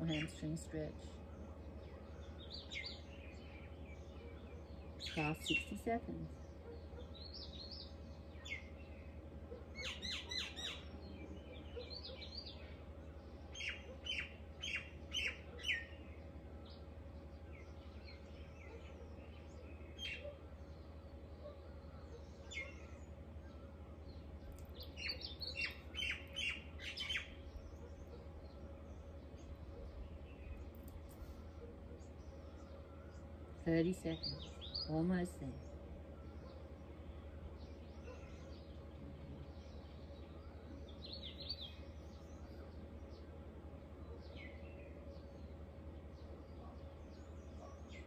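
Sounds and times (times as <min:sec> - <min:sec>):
birds chirping: 0:00.0 - 0:48.0
faint steady hum: 0:00.0 - 0:48.0.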